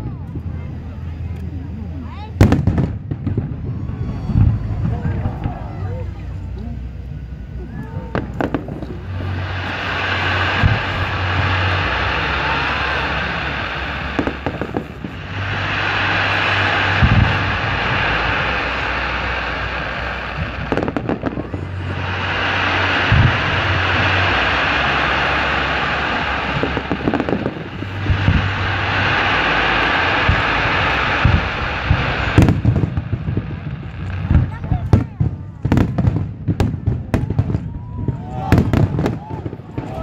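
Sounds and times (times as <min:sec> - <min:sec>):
hiss of burning fireworks: 0:00.0 - 0:40.0
firework bangs and thuds: 0:02.4 - 0:06.0, 0:08.0 - 0:40.0.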